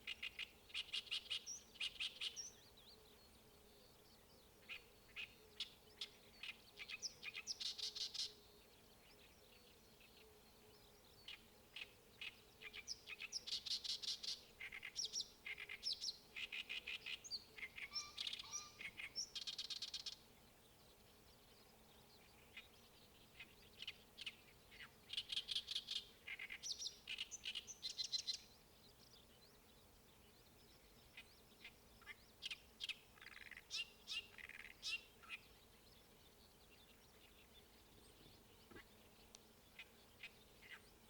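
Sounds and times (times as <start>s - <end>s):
songbird chattering song: 0.0s - 41.0s.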